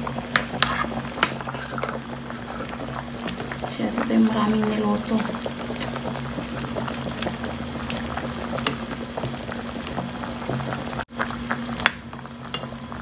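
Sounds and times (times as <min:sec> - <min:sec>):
broth bubbling in a pot: 0:00.0 - 0:13.0.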